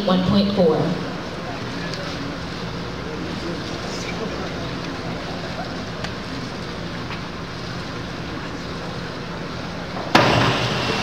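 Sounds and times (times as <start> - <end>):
indoor pool hall hum: 0.0 - 11.0.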